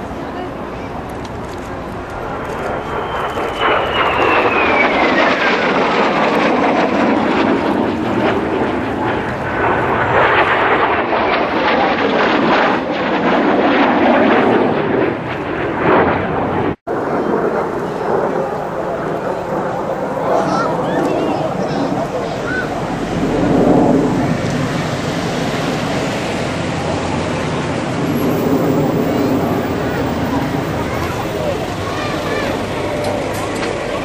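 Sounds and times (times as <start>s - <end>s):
jet aircraft flying past: 0.0s - 34.0s.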